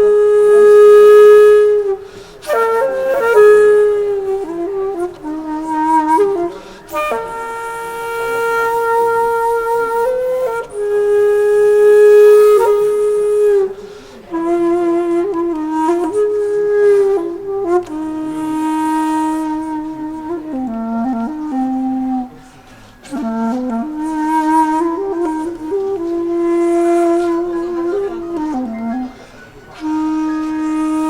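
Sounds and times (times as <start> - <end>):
solo flute slow melody: 0.0 - 31.0.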